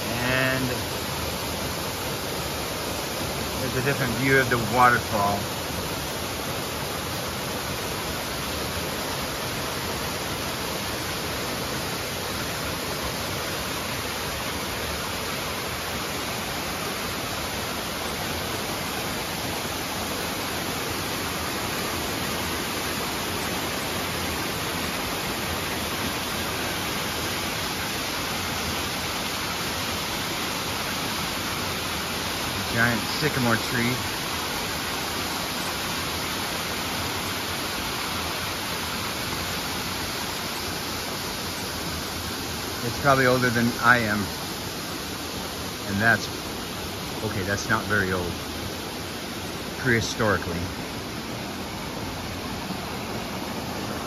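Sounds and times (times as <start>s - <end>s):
waterfall cascading over rock: 0.0s - 54.0s.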